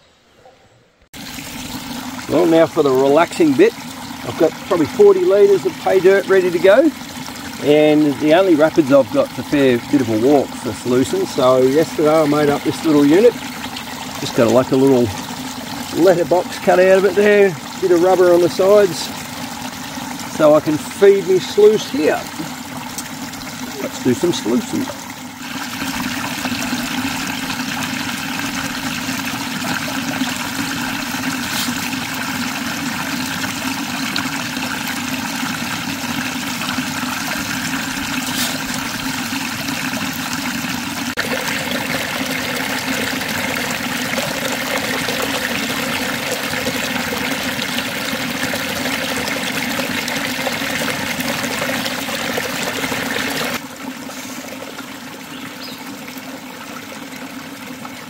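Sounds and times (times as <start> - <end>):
water gushing into tub: 1.1 - 58.0.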